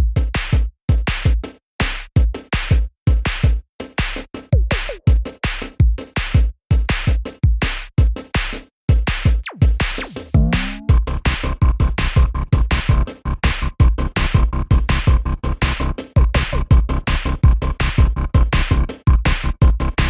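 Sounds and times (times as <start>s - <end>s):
electronic music with drum-machine beat: 0.0s - 20.0s.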